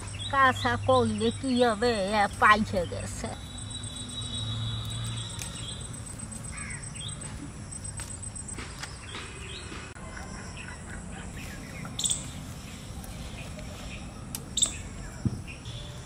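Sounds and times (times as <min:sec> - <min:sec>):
bird calls and chirps: 0:00.0 - 0:16.0.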